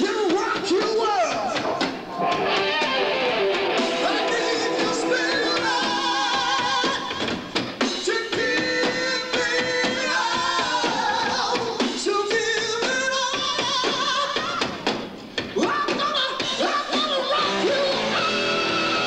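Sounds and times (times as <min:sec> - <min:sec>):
drum hits: 0:00.0 - 0:16.6
rock band playing: 0:00.0 - 0:19.0.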